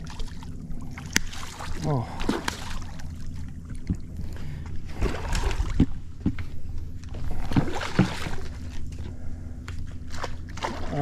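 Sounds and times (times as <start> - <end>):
water slapping against hull: 0.0 - 11.0.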